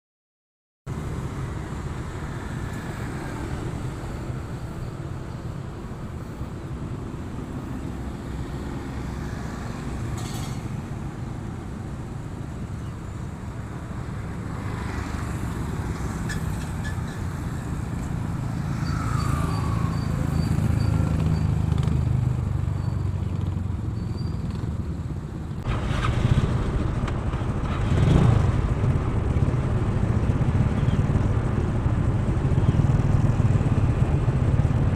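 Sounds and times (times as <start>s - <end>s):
vehicle engine and road rumble: 0.9s - 34.9s.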